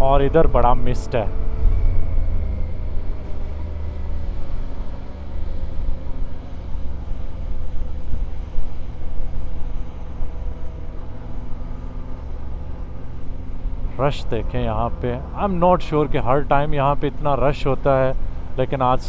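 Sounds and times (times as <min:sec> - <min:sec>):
low rumble on microphone: 0:00.0 - 0:15.4
motorcycle engine cruising: 0:00.0 - 0:19.0.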